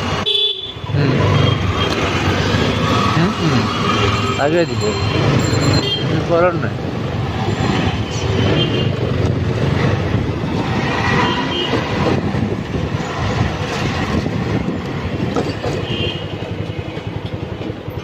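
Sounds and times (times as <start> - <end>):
moving vehicle rumbling: 0.0 - 18.0.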